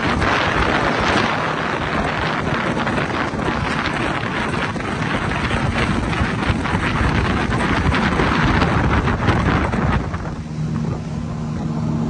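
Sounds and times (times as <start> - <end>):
boat engine hum: 0.0 - 12.0
rushing water: 0.0 - 12.0
wind buffeting the microphone: 0.0 - 12.0.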